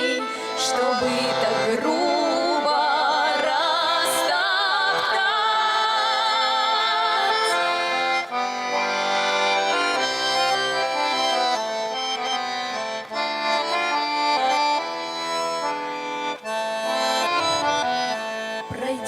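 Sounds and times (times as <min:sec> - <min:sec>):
accordion folk melody: 0:00.0 - 0:19.0.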